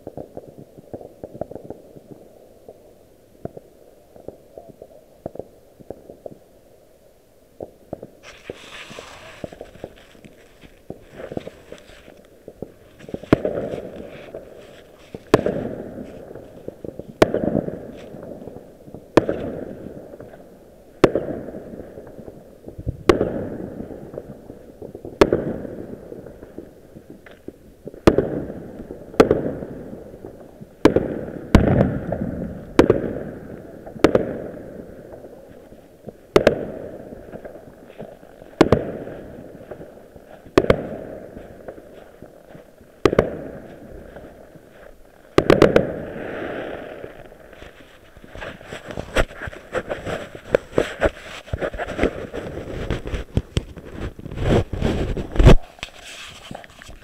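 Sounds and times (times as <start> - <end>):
fireworks bangs with rumbling echo: 0.0 - 2.8, 7.6 - 55.7.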